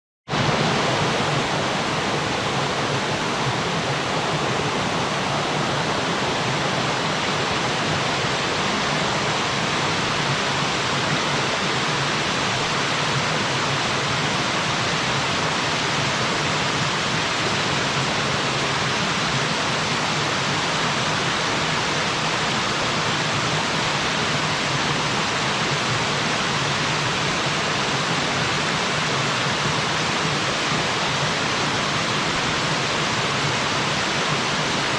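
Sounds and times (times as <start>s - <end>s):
waterfall roaring: 0.3s - 34.9s.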